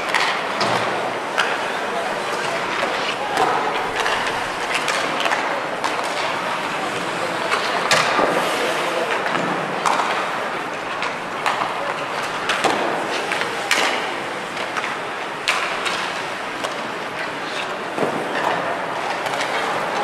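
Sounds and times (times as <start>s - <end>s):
skates scraping on ice: 0.0s - 20.0s
sticks striking pucks: 0.0s - 20.0s.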